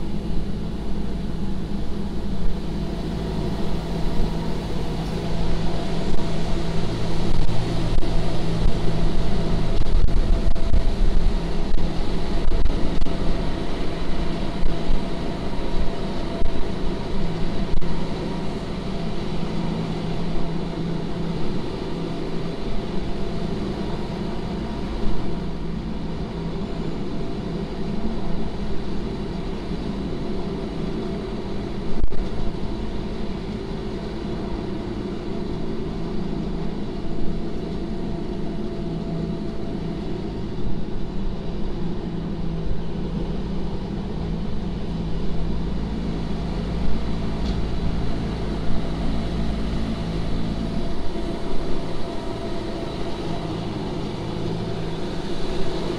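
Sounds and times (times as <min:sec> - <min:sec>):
electric train motor hum: 0:00.0 - 0:55.9.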